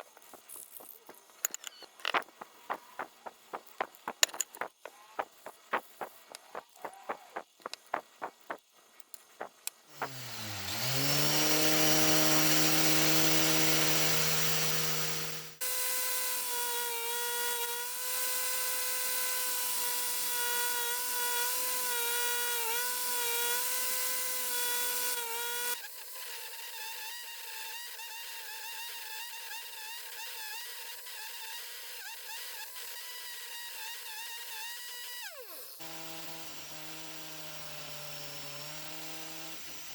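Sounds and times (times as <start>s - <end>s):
power tool whining: 0.0s - 8.5s, 9.9s - 39.9s.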